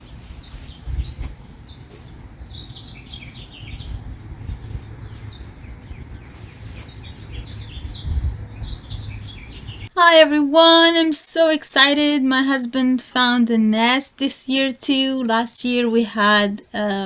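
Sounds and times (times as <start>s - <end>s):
songbirds chirping: 0.0s - 10.3s, 12.0s - 17.0s.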